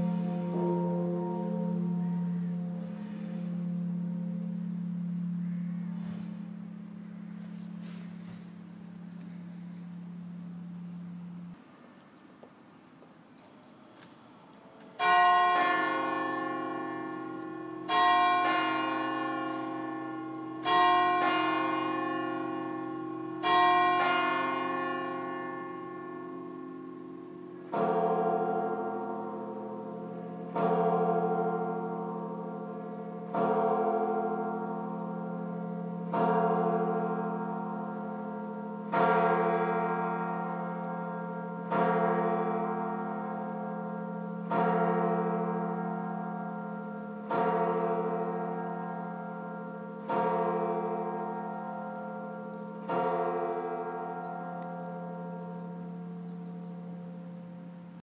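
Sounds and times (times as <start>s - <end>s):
church bell striking: 0.0s - 11.6s, 15.0s - 58.0s
deeper church bell striking: 0.0s - 11.6s, 15.0s - 58.0s.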